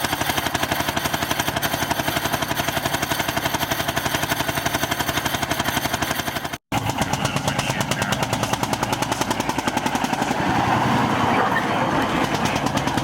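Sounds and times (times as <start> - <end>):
engine with regular exhaust beat: 0.0 - 13.0.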